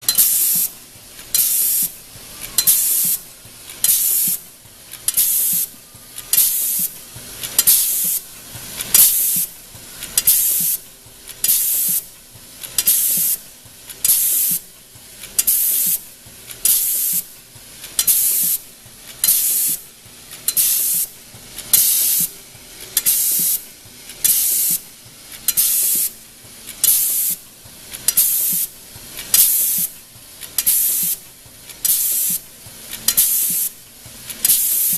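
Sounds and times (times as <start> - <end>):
crimping machine hiss: 0.0 - 34.9
quiet machine noise: 0.0 - 34.9.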